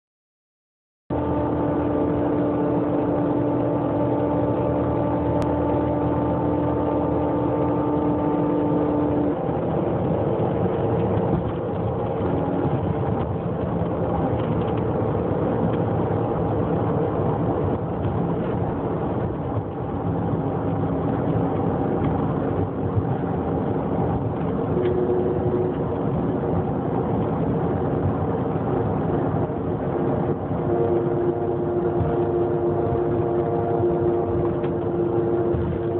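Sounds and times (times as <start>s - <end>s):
engine humming over rumble: 1.1s - 35.9s.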